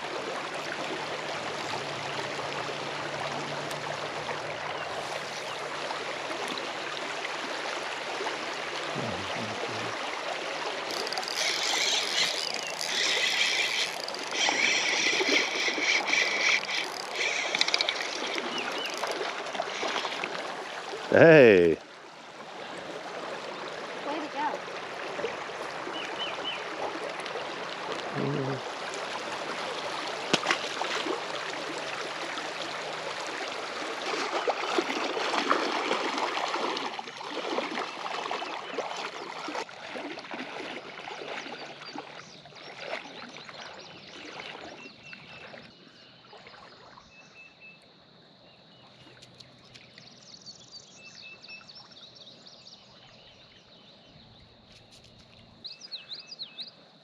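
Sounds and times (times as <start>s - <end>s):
water splashing and sloshing: 0.0s - 21.1s, 21.8s - 47.4s
creek water running: 0.0s - 47.4s.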